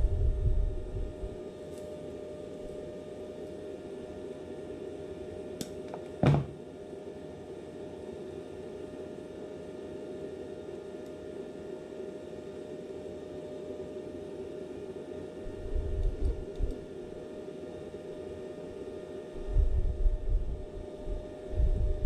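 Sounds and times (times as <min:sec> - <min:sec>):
welder cooling fan humming: 0:00.0 - 0:22.0.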